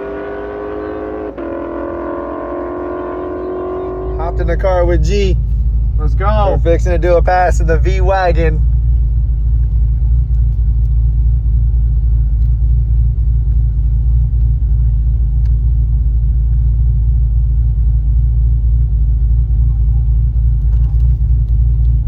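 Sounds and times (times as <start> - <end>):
car engine rumbling at low revs: 0.0 - 22.0.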